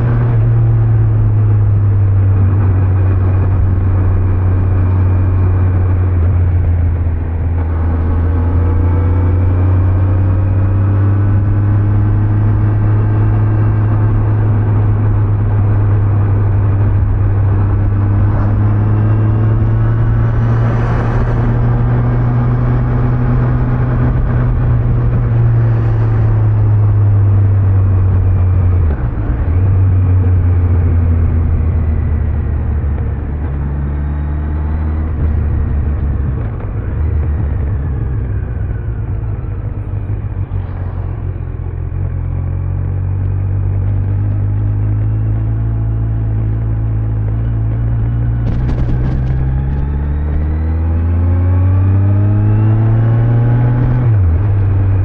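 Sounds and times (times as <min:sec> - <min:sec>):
motorcycle engine at road speed: 0:00.0 - 0:55.0.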